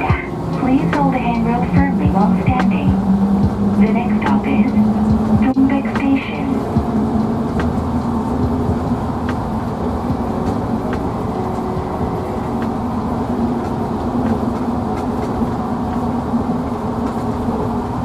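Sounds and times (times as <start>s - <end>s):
train hum and rumble: 0.0s - 18.0s.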